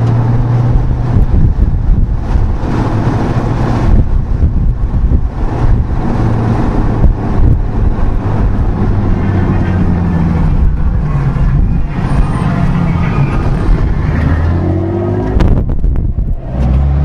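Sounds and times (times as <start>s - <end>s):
car engine at low revs: 0.0s - 17.0s.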